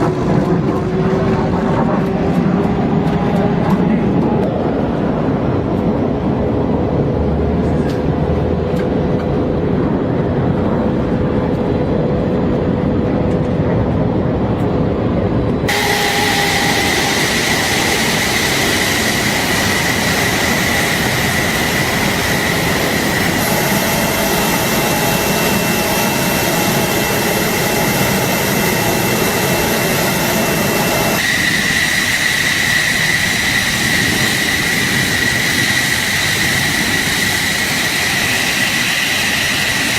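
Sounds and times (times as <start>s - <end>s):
high jet whine: 0.0s - 39.9s
jet engines roaring: 0.0s - 39.9s.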